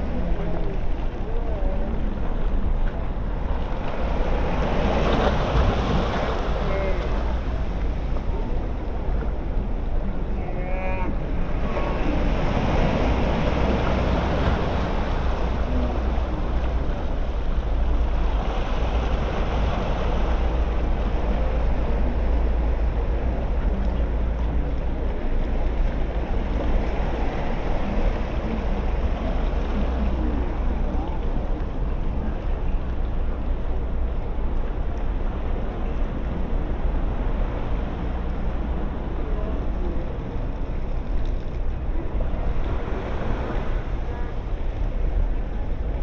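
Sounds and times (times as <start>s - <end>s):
ocean surf washing onto beach: 0.0s - 46.0s.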